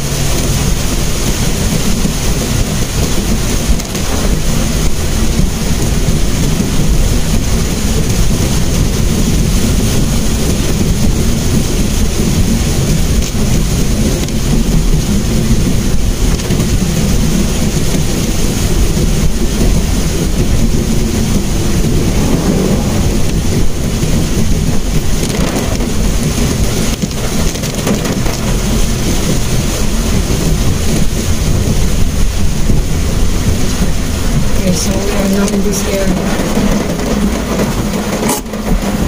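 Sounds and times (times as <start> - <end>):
car driving on wet road: 0.0 - 39.0
rain pattering on car roof: 0.0 - 39.0.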